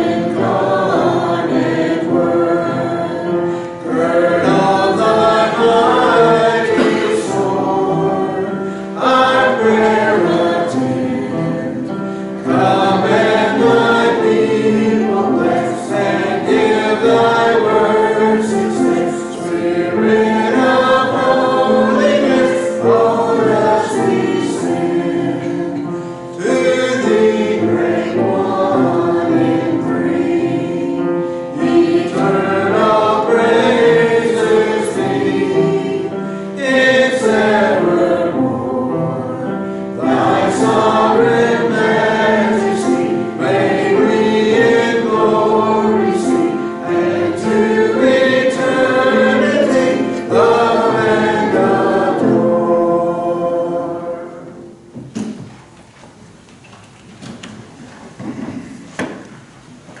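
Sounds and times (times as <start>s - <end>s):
congregation and choir singing hymn: 0.0s - 55.8s.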